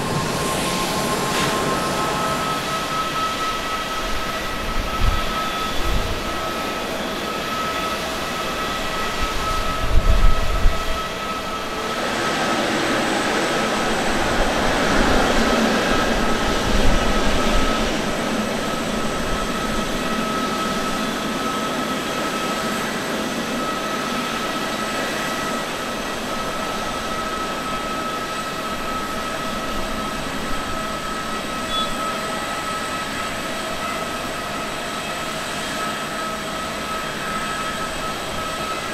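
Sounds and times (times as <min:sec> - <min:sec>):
jet engine rushing noise: 0:00.0 - 0:38.9
jet engine whine: 0:00.0 - 0:38.9.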